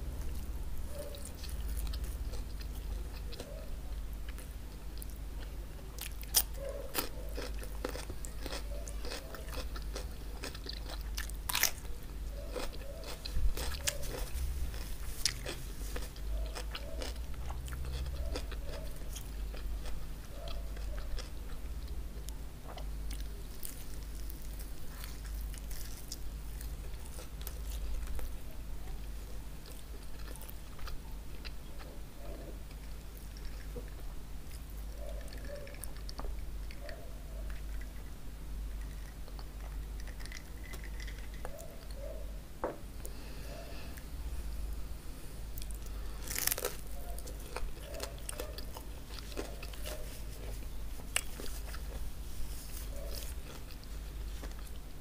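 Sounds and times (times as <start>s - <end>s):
chewing and crunching bread: 0.0s - 42.3s, 45.4s - 55.0s.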